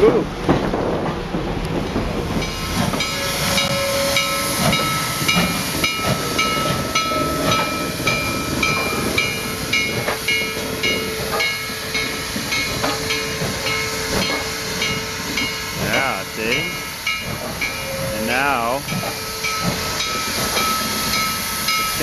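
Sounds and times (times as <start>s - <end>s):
steam locomotive moving slowly: 0.0s - 22.0s
steam hissing: 2.2s - 22.0s.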